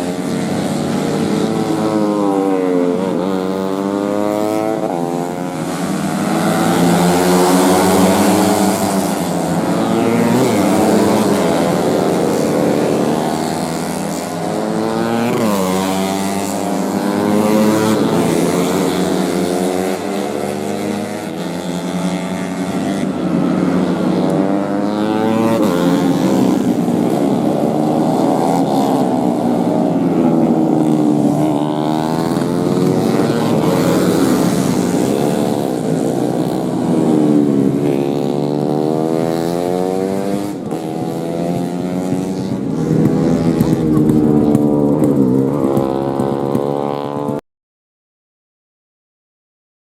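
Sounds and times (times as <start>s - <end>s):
racing motorcycles at high revs: 0.0s - 47.4s.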